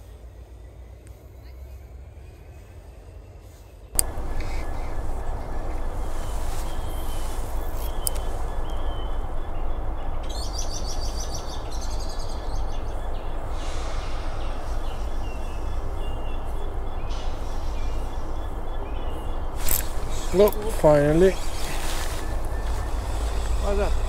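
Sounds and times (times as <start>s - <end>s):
low background rumble: 0.0s - 24.0s
thin whistled bird notes: 3.2s - 24.0s
high bird chirps: 4.0s - 24.0s.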